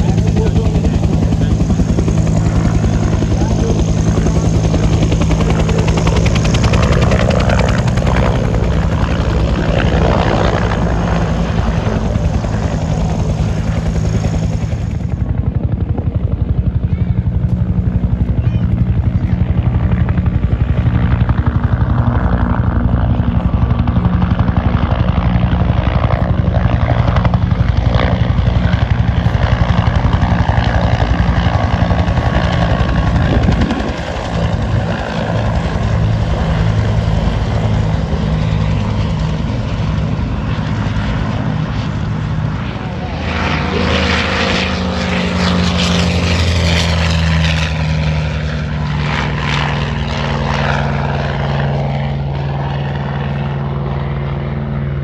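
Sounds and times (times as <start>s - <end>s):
helicopter engine noise: 0.0s - 55.0s
helicopter rotors chopping: 0.0s - 55.0s.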